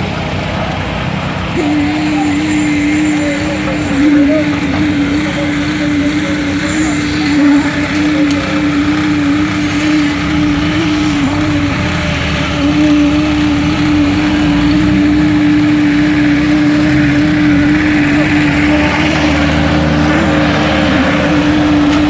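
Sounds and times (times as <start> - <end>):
construction machinery engine humming: 0.0 - 22.0.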